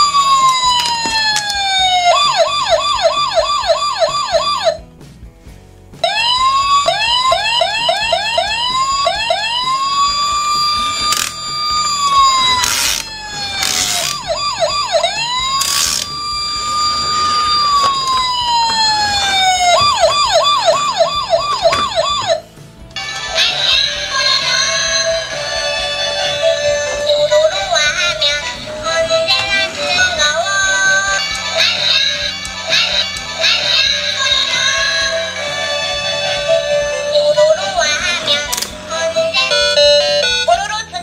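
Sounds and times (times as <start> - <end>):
toy police siren: 0.0 - 4.8, 6.0 - 22.4, 23.0 - 41.0.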